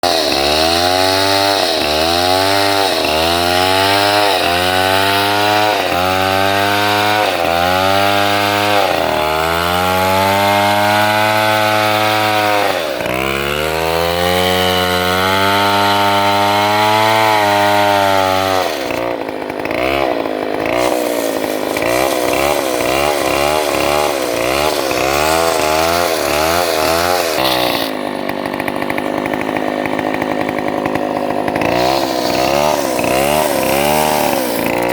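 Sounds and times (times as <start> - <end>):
chainsaw cutting log: 0.0 - 34.9.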